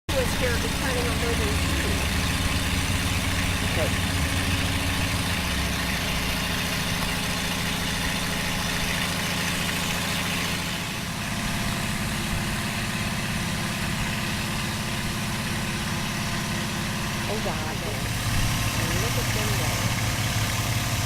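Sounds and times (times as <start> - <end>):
engine running at low speed: 0.1 - 21.0.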